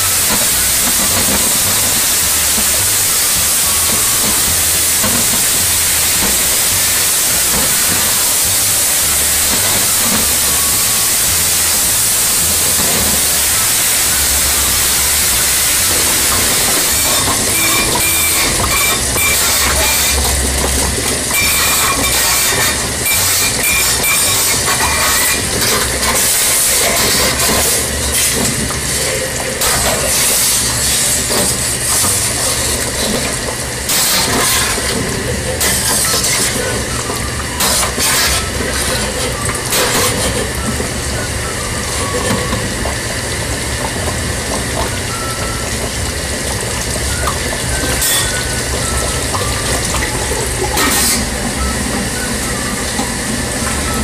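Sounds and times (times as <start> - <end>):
stovetop hiss and rumble: 0.0 - 54.0.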